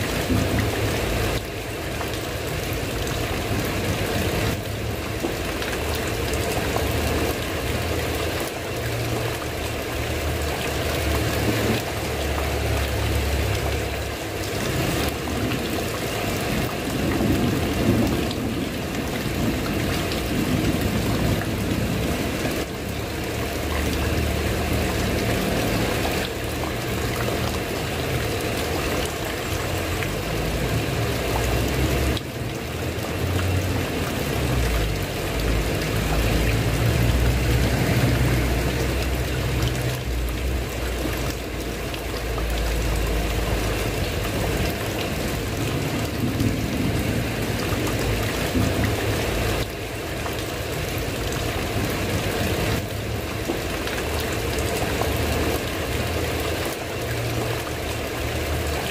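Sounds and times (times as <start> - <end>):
heavy rain on a tiled roof: 0.0 - 58.9.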